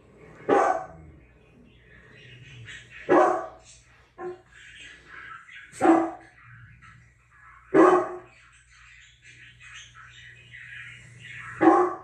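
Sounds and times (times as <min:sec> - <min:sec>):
dogs barking on tv: 0:00.0 - 0:12.0.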